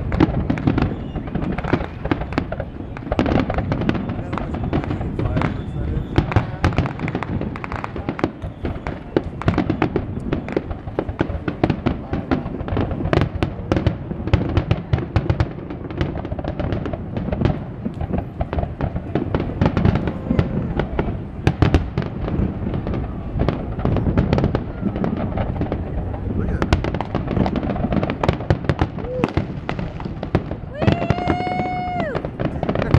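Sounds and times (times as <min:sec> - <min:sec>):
fireworks bursting with bangs and crackles: 0:00.0 - 0:32.9.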